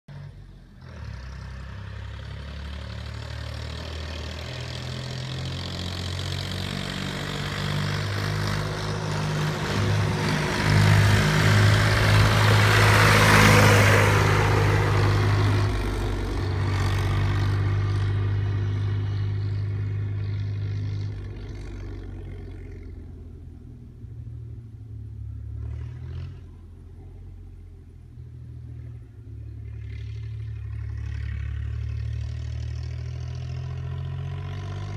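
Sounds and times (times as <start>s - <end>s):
tractor diesel engine accelerating: 0.1s - 34.9s.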